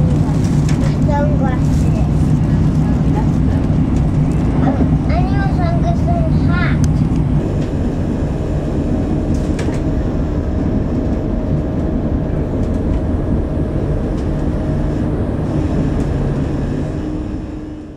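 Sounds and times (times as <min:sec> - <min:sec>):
diesel engine drone: 0:00.0 - 0:17.9
train wheels rumbling on rails: 0:00.0 - 0:17.9.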